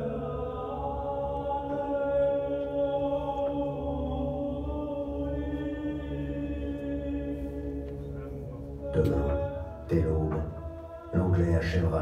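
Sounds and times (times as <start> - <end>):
choir singing long-held notes: 0.0 - 12.0.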